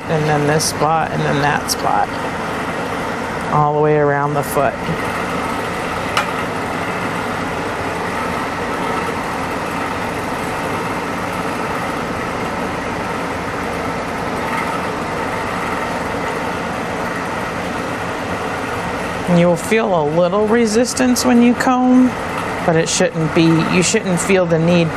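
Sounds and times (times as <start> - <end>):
electric air blower drone: 0.0 - 24.9.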